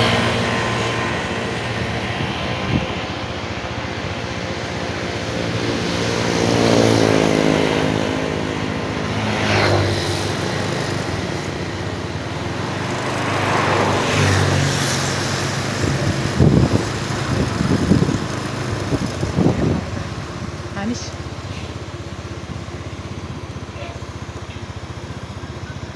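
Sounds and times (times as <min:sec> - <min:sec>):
large vehicles passing: 0:00.0 - 0:25.9.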